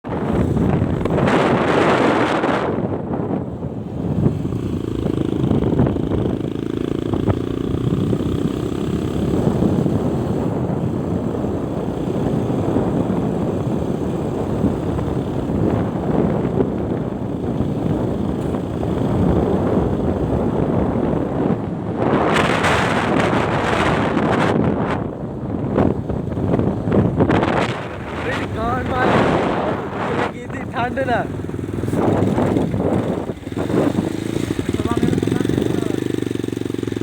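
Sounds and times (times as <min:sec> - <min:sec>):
motorcycle engine hum: 0:00.0 - 0:37.0
wind rushing over microphone: 0:00.0 - 0:37.0.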